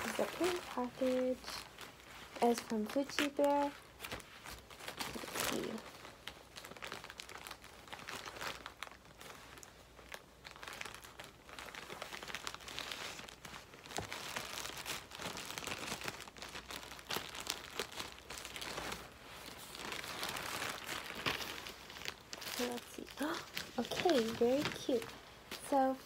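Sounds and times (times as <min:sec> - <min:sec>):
plastic bag crinkling and rustling: 0:00.0 - 0:26.0.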